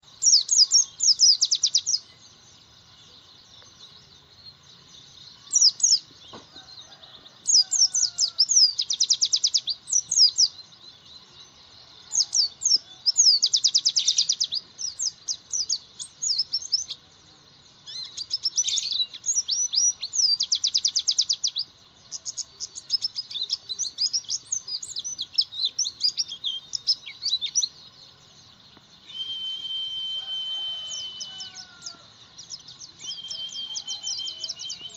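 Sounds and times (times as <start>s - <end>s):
bird twittering and trilling: 0.0s - 34.9s.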